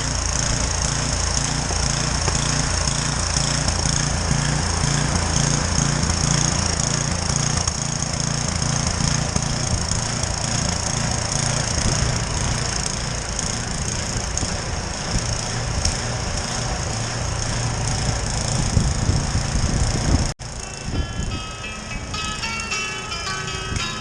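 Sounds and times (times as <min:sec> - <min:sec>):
snow thrower running: 0:00.0 - 0:24.0.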